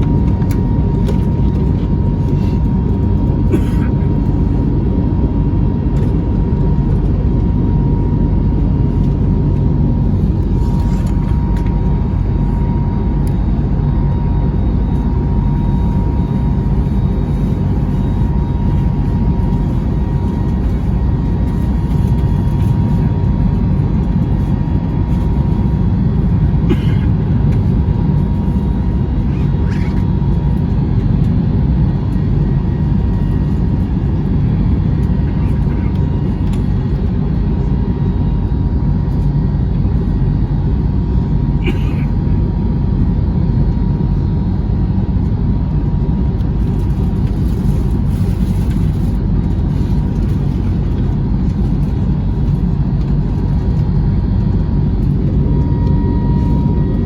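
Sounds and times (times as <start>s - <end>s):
engine and airflow rumble: 0.0s - 57.0s
faint steady whine: 0.0s - 57.0s.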